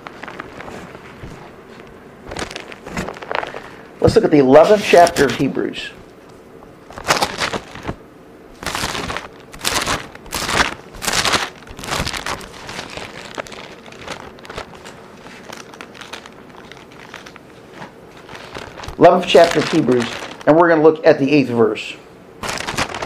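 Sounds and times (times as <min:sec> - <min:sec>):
thin pages rustling: 0:00.0 - 0:03.8, 0:04.5 - 0:08.0, 0:08.6 - 0:20.6, 0:22.4 - 0:23.0.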